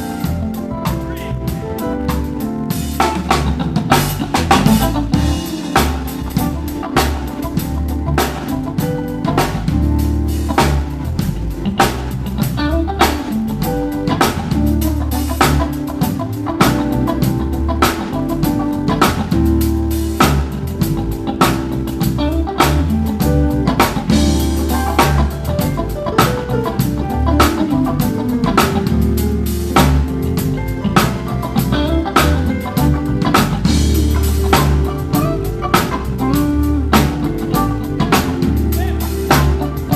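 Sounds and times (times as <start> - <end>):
drum kit beat: 0.0 - 39.9
electric guitar: 0.0 - 39.9
low bass line: 0.0 - 39.9.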